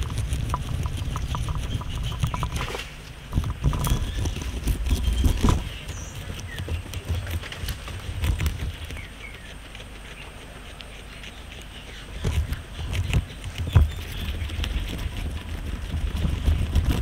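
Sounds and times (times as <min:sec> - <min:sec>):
guinea pig munching grass: 0:00.0 - 0:17.0.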